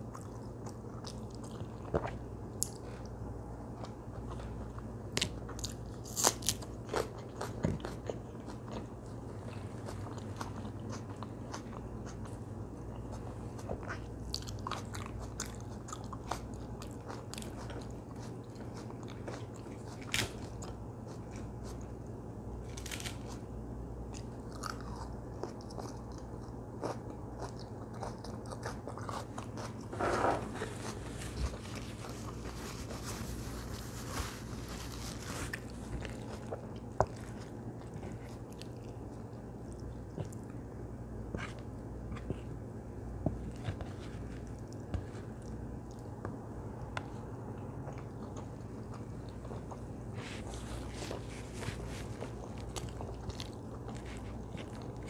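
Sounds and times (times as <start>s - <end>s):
person chewing and crunching food: 0.0s - 55.0s
steady low hum: 0.0s - 55.0s.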